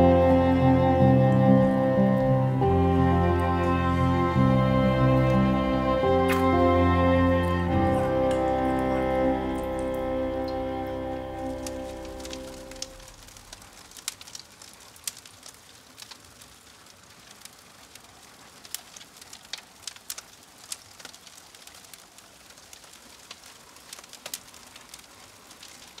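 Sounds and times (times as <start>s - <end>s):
faint hiss: 0.0s - 26.0s
logs crackling and popping in stove: 0.0s - 26.0s.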